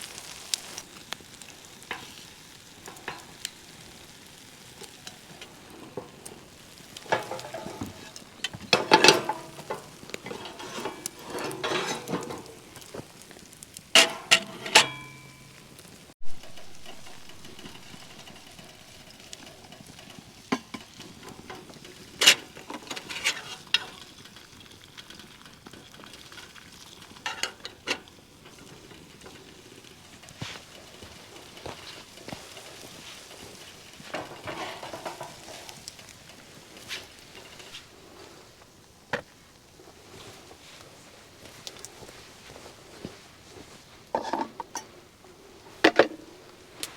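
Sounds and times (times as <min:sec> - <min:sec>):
food sizzling in a frying pan: 0:00.0 - 0:46.9
utensil clinking and scraping pan: 0:00.2 - 0:38.3, 0:42.9 - 0:45.0.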